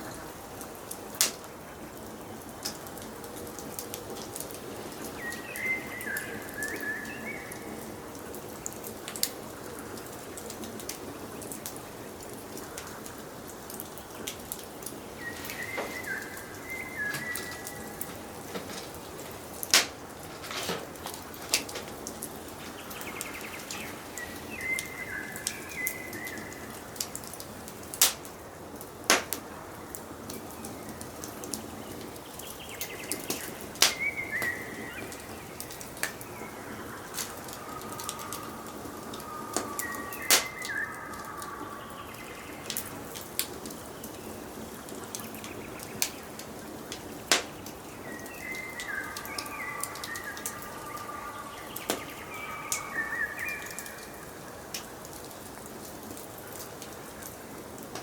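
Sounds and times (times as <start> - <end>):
wood fire crackling: 0.0 - 58.0
birds singing: 1.4 - 27.7, 29.0 - 55.6.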